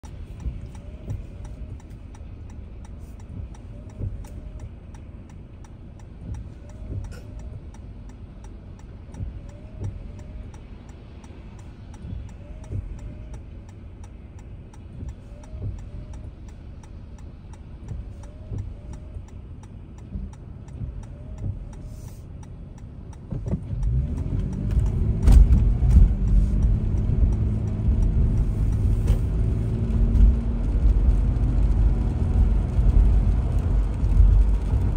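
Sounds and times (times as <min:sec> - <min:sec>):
car engine rumble: 0:00.0 - 0:34.9
light ticking: 0:00.0 - 0:34.9
tyre noise on wet road: 0:00.0 - 0:34.9.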